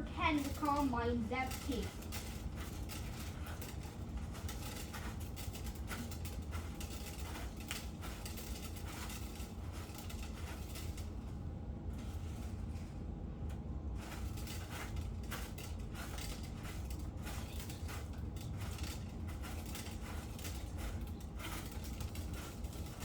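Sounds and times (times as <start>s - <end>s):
plastic toys clicking and rattling: 0.0s - 11.2s, 14.0s - 23.0s.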